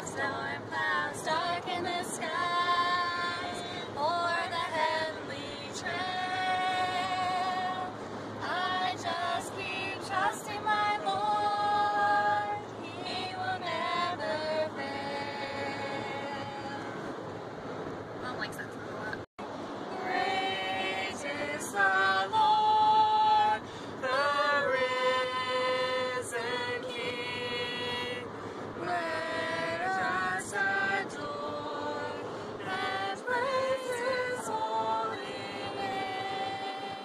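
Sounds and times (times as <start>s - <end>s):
group of people singing: 0.0s - 17.1s, 19.9s - 37.0s
car road noise: 0.0s - 37.0s.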